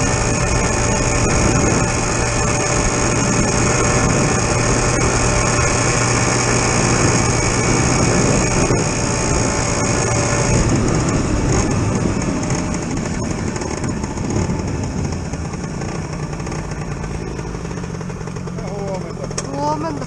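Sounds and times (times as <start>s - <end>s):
wind noise: 0.0s - 16.5s
moped engine running: 0.0s - 20.0s.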